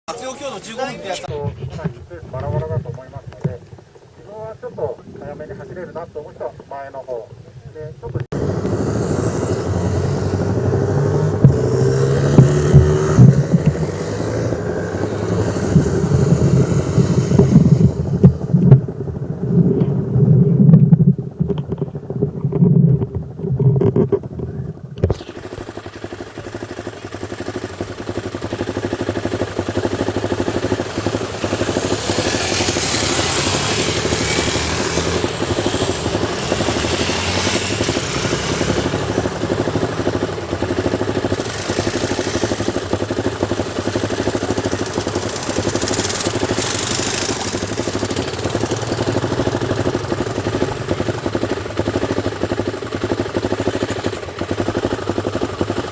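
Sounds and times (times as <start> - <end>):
motorcycle engines revving: 0.1 - 55.9.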